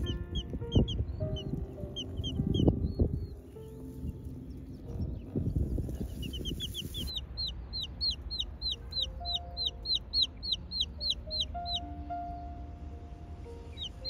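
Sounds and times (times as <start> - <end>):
chick peeping: 0.0 - 12.2, 13.6 - 14.0.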